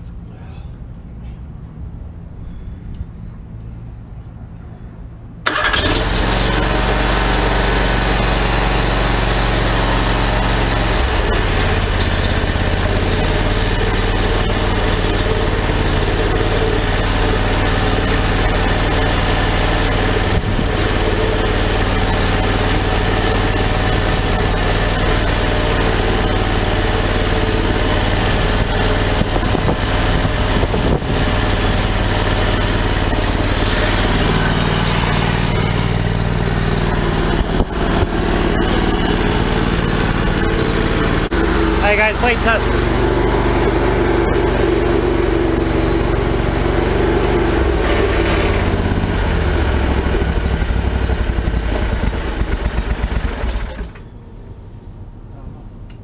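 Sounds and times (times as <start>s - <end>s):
v-twin engine starting and running: 5.4s - 54.8s.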